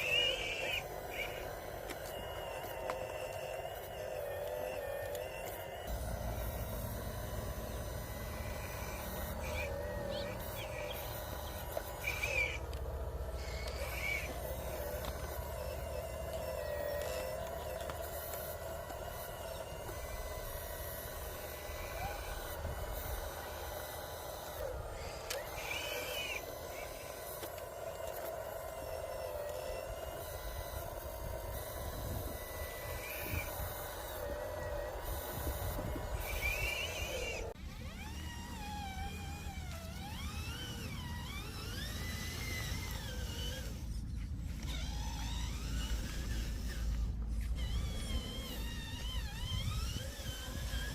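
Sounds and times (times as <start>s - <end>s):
small electric motors whining: 0.0s - 50.9s
toy trucks mechanical whir: 0.0s - 50.9s.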